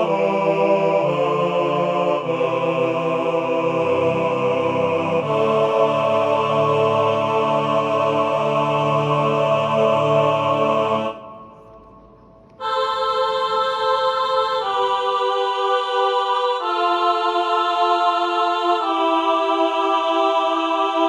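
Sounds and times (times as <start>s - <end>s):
slow choir-like chords: 0.0s - 21.0s.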